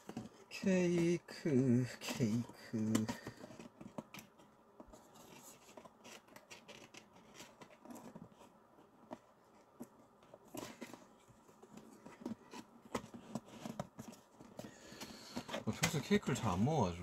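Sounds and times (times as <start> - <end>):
handling clicks and rustles: 2.0 - 16.8.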